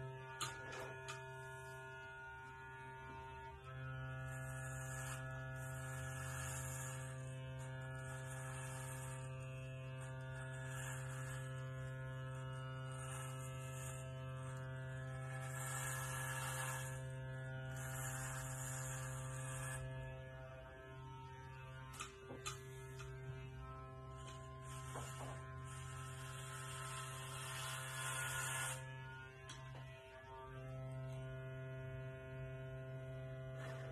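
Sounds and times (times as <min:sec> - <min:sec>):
electric hair clipper buzzing: 0:00.0 - 0:33.9.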